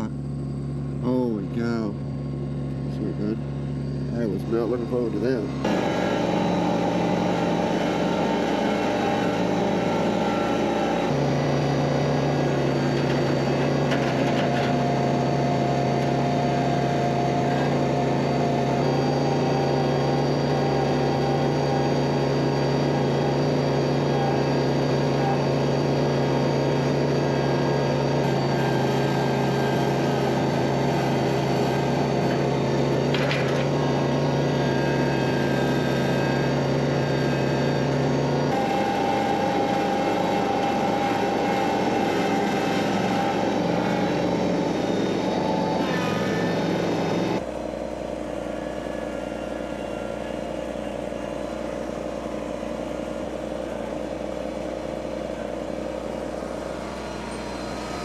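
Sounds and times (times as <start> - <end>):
engine running with low hum: 0.0 - 58.0.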